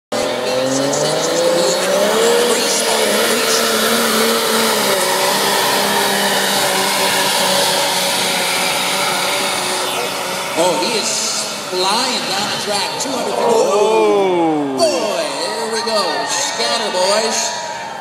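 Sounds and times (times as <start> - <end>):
diesel truck engine at full throttle: 0.0 - 17.9.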